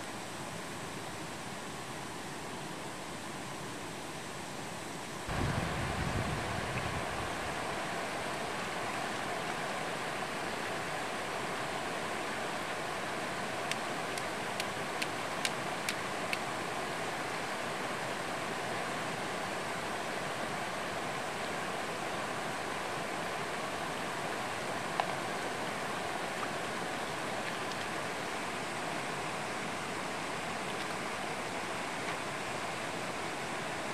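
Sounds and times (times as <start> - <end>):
stream rushing over rocks: 5.3 - 33.9.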